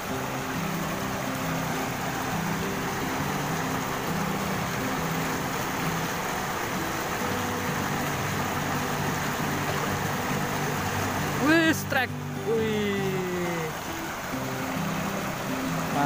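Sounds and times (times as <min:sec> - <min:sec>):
background tune of held notes: 0:00.0 - 0:16.0
stream rushing over rocks: 0:00.0 - 0:16.0.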